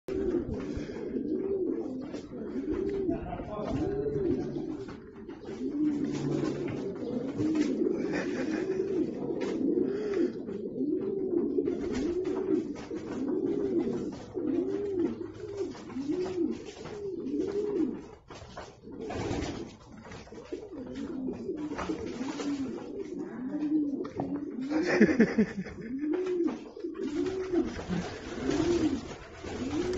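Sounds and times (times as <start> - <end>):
pigeon cooing: 0.1 - 29.9.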